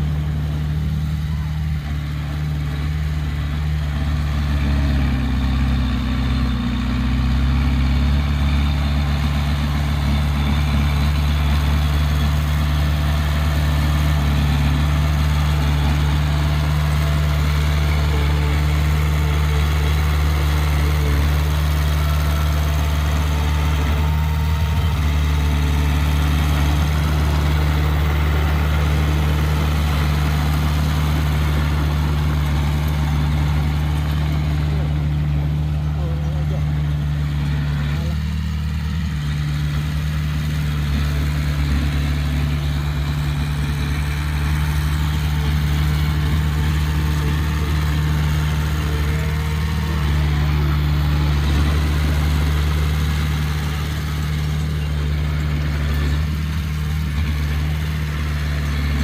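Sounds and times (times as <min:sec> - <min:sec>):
engine droning steadily: 0:00.0 - 0:59.0.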